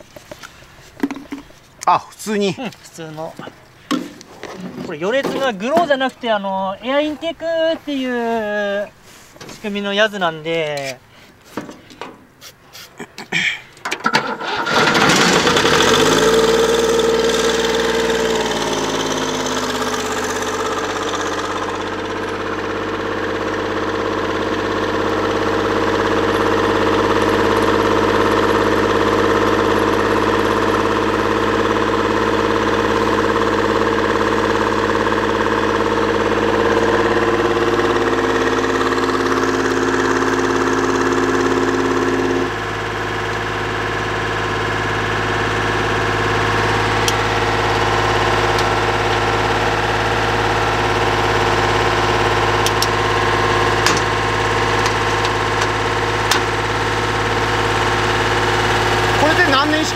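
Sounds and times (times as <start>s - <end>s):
diesel engine cranking and idling: 0.0s - 12.4s, 13.0s - 59.9s.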